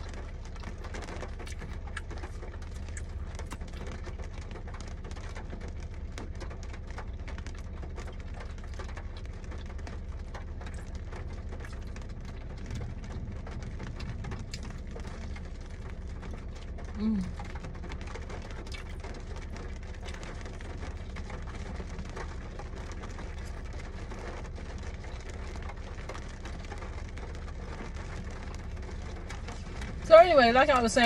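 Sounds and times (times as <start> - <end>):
rain pattering on car roof: 0.0 - 31.0
chewing food: 0.1 - 5.4, 8.0 - 30.1.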